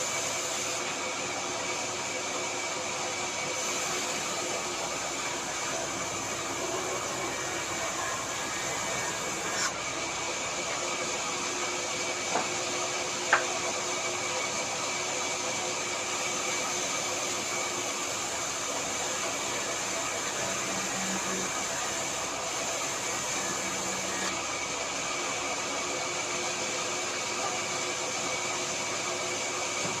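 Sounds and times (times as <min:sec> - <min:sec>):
woodworking machine whine: 0:00.0 - 0:30.0.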